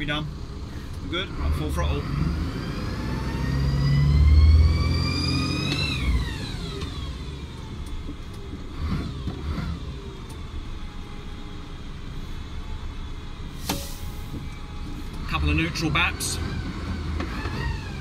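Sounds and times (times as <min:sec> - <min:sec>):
diesel truck engine revving: 0:00.0 - 0:07.9, 0:08.7 - 0:10.8, 0:13.5 - 0:18.0.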